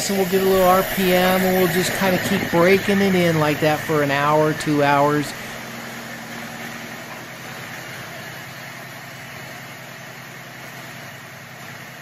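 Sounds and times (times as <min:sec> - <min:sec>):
car engine idling: 0:00.1 - 0:10.4.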